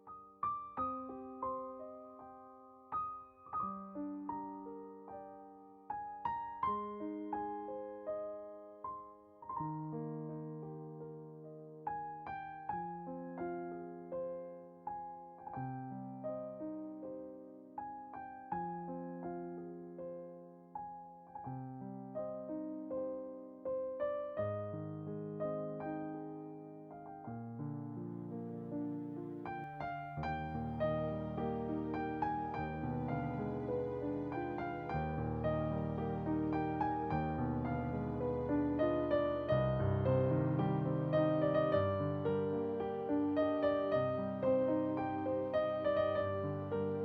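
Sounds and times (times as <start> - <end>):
slow gentle piano melody: 0.0 - 47.0.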